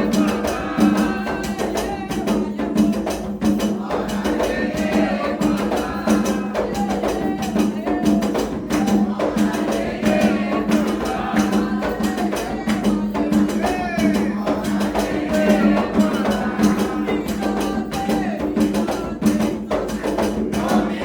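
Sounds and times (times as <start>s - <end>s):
hand drums and percussion: 0.0s - 21.0s
voices singing a chant: 0.0s - 21.0s.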